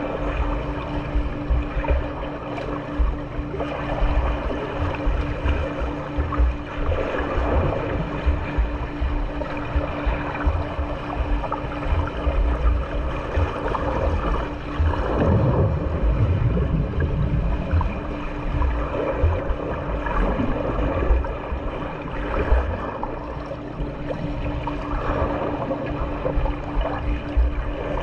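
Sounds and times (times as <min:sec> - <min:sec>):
steady low hum: 0:00.0 - 0:28.0
water splashing from swimming: 0:00.0 - 0:28.0.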